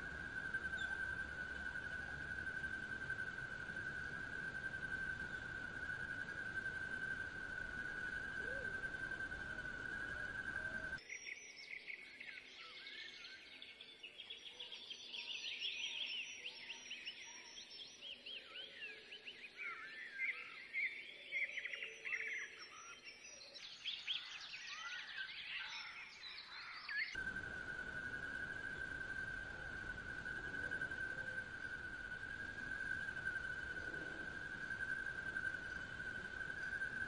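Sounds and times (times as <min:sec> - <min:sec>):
chorus of birds chirping: 0:00.0 - 0:37.0.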